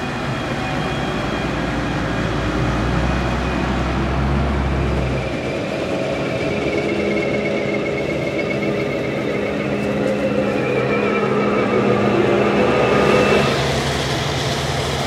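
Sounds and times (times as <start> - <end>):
heavy low engine drone: 0.0 - 15.0
high-pitched machine hum and whine: 0.0 - 15.0.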